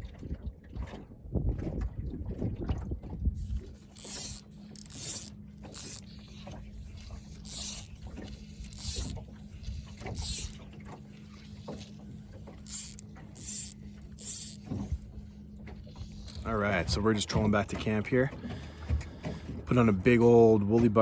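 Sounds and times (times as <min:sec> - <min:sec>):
electric boat motor humming: 0:03.4 - 0:20.4.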